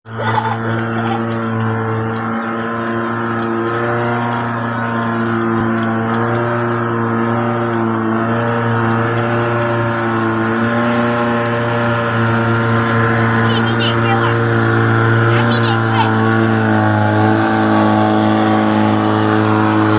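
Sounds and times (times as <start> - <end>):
boat engine running: 0.0 - 19.9.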